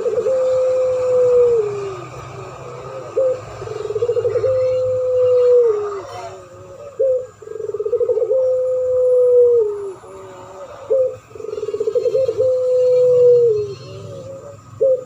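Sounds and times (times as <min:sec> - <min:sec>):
doves cooing: 0:00.0 - 0:15.0
rapid rolling bird trill: 0:00.0 - 0:15.0.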